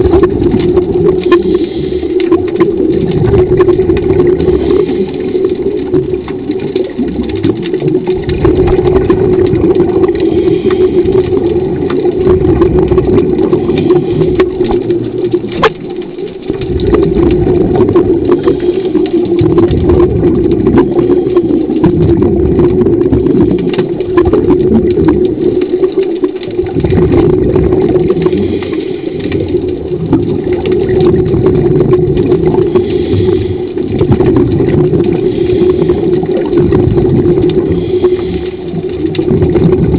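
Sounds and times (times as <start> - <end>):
low rumble of water: 0.0 - 39.9.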